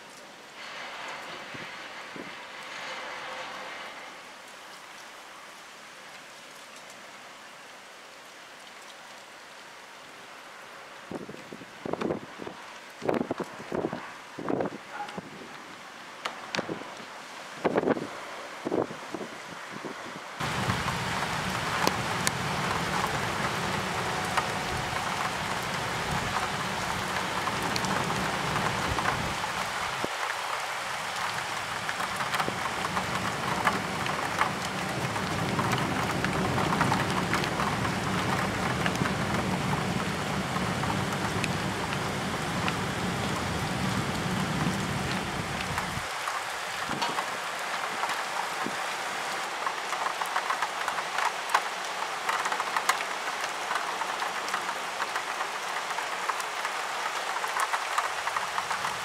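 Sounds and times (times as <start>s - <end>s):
raindrops ticking on a surface: 0.0s - 2.9s, 4.2s - 18.9s, 20.4s - 59.0s
heavy rain: 0.0s - 59.0s.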